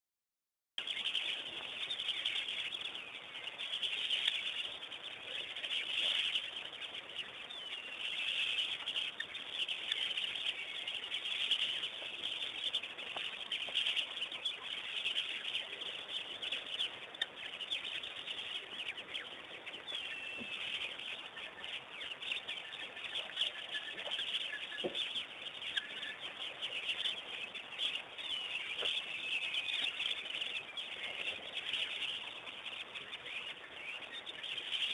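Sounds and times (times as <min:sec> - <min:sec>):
birds chirping chorus: 0:00.8 - 0:34.9.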